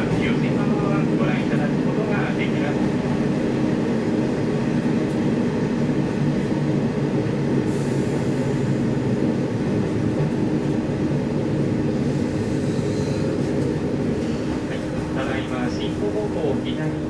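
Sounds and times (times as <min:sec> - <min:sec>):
diesel railcar engine drone: 0:00.0 - 0:17.0
wheel and rail rumble: 0:00.0 - 0:17.0.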